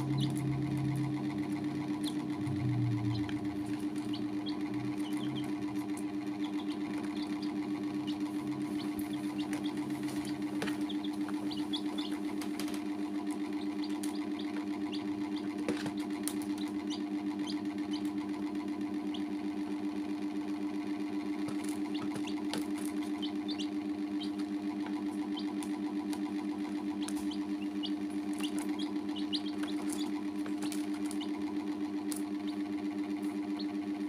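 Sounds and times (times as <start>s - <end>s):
chicks peeping: 0.0s - 19.4s, 20.8s - 34.0s
loud throbbing low hum: 0.0s - 19.6s, 20.5s - 34.0s.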